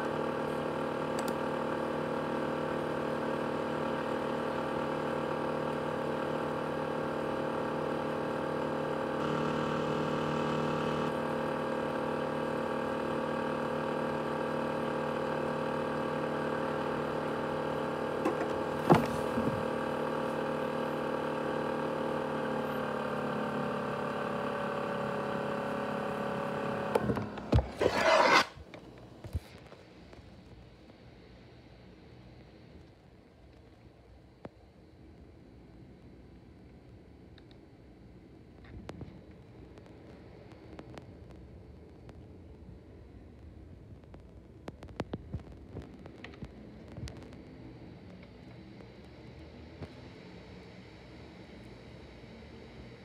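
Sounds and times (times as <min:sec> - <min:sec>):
laptop cooling fan whine: 0:00.0 - 0:53.0.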